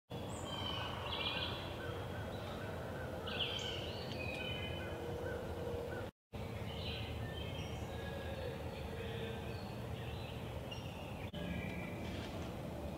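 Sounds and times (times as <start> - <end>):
songbirds chirping: 0.1 - 12.9.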